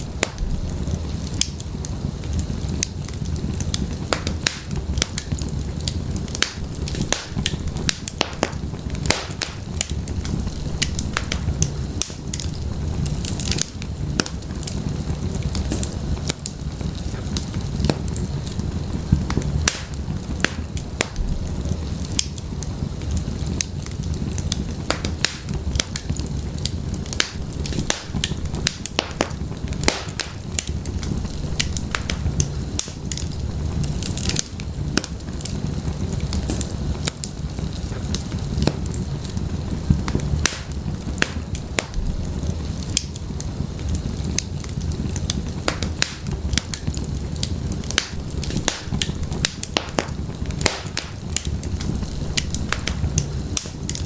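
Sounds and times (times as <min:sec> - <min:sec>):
firewood crackling and popping: 0:00.0 - 0:54.0
low rumble of flames: 0:00.0 - 0:54.0.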